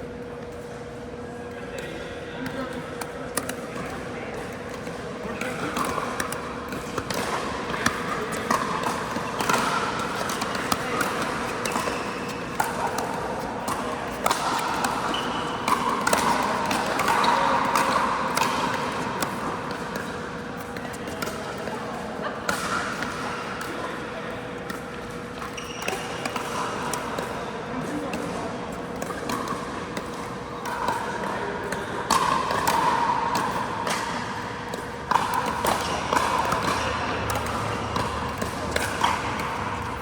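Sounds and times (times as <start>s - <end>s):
ball bouncing on court: 1.8s - 23.9s, 24.6s - 27.4s, 29.0s - 40.0s.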